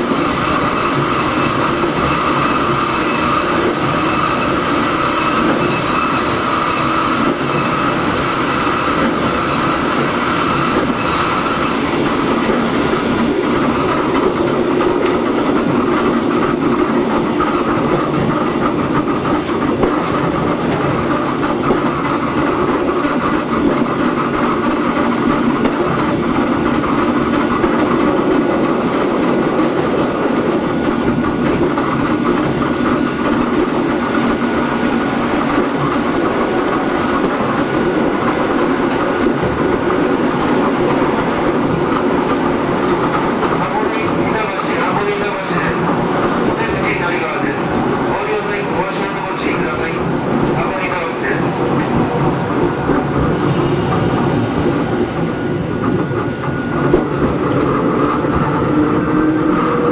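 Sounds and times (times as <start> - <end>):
train motors and gearing running: 0.0 - 59.9.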